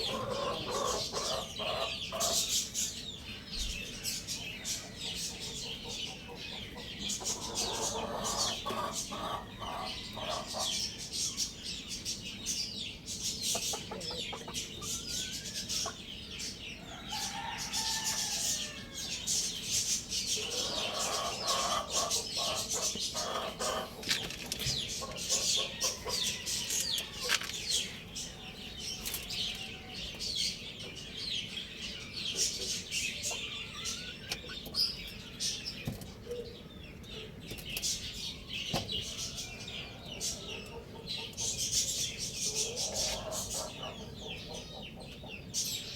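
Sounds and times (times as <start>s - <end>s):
chickens clucking: 0.0s - 45.9s
small birds chirping: 0.0s - 45.9s.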